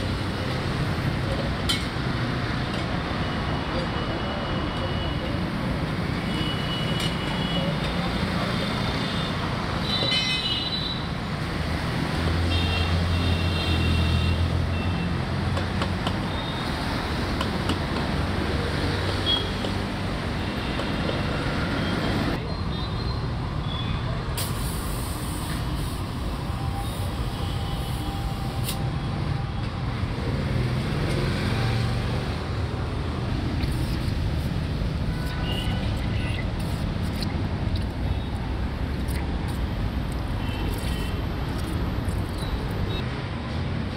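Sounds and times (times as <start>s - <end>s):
street traffic noise: 0.0s - 43.9s.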